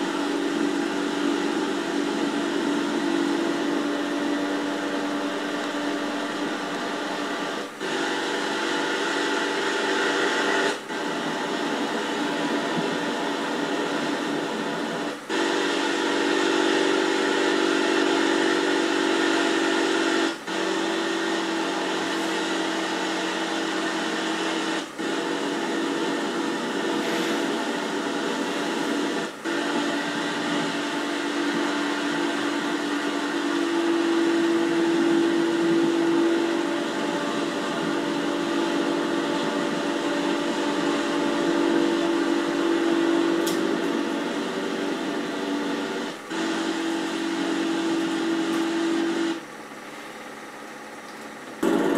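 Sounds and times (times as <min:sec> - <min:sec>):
outboard motor whining: 0:00.0 - 0:50.0.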